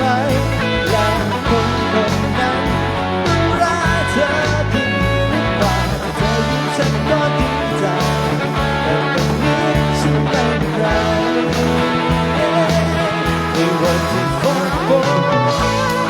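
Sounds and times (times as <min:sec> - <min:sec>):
bass: 0:00.0 - 0:16.0
drum beat: 0:00.0 - 0:16.0
electric guitar: 0:00.0 - 0:16.0.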